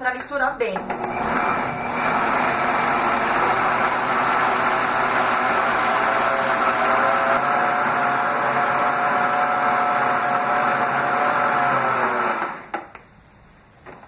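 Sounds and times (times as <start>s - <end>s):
countertop blender running: 0.8s - 12.8s.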